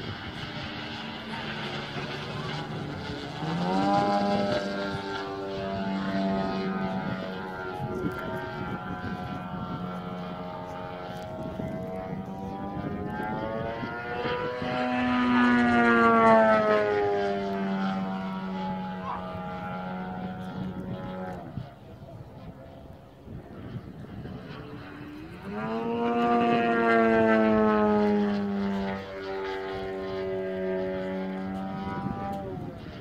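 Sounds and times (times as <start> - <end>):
model plane engine and propeller: 0.0 - 33.0.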